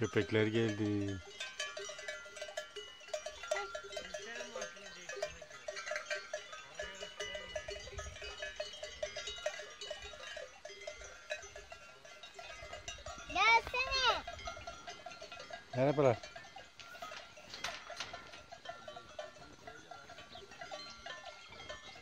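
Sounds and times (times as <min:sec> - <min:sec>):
animal bells clanking: 0:00.0 - 0:22.0.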